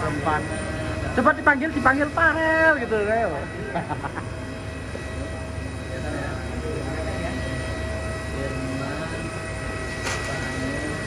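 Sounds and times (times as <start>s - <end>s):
faint voices: 0.0s - 11.0s
jet turbine rumble and whine: 0.0s - 11.0s.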